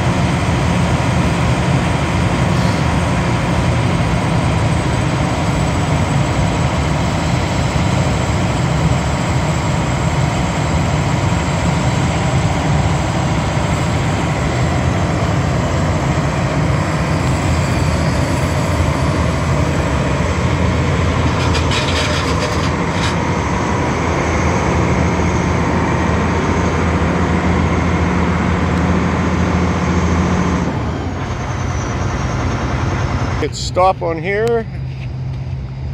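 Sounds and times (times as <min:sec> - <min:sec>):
diesel engine running: 0:00.0 - 0:35.9
high whine: 0:00.0 - 0:35.9.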